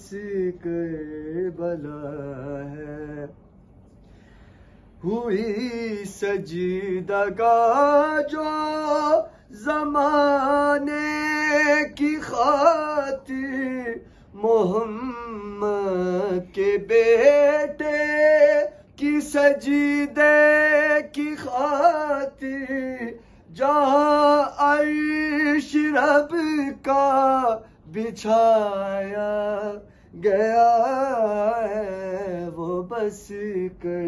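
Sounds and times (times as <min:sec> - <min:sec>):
man chanting: 0:00.0 - 0:03.3, 0:05.0 - 0:34.0.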